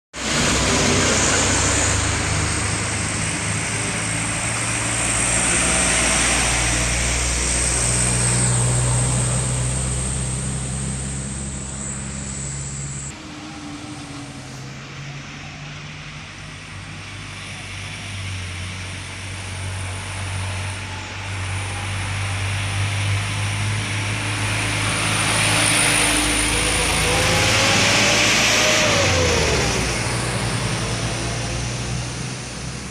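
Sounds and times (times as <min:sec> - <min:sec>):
heavy truck engines under load: 0:00.2 - 0:32.9.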